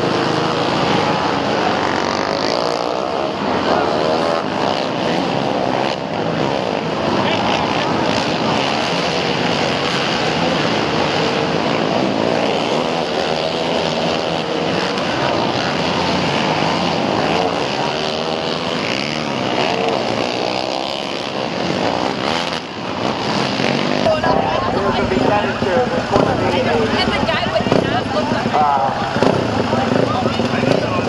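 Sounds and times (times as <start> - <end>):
quad engines revving: 0.0 - 31.0.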